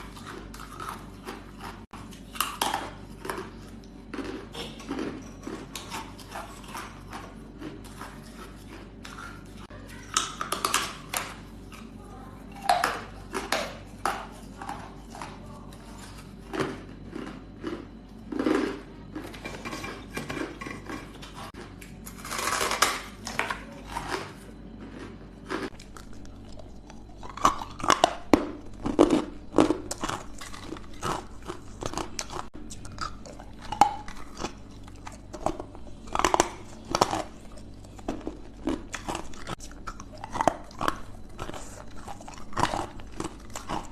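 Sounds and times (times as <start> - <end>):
ice being chewed: 0.0 - 43.9.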